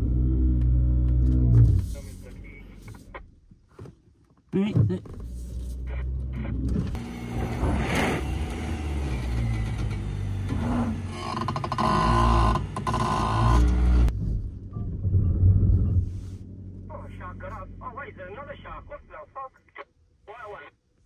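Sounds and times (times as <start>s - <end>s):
vehicle low rumble: 0.0s - 3.3s, 5.0s - 19.0s.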